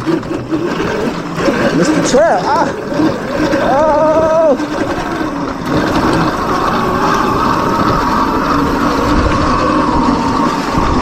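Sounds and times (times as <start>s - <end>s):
electric motor whine: 0.0s - 11.0s
tyre noise: 0.0s - 11.0s
wind rush on microphone: 0.0s - 11.0s.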